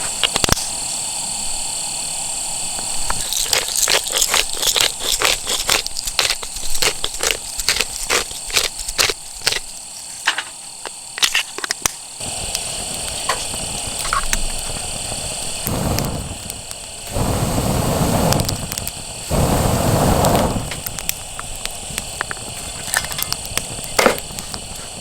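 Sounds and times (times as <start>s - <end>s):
steady high hiss: 0.0s - 25.0s
campfire crackling and popping: 2.8s - 9.9s, 10.6s - 25.0s.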